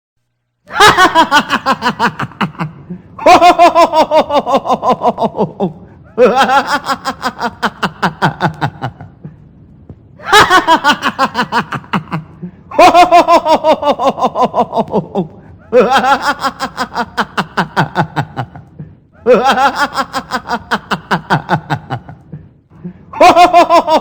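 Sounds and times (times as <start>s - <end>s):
man laughing: 0.7s - 9.4s, 10.2s - 24.0s.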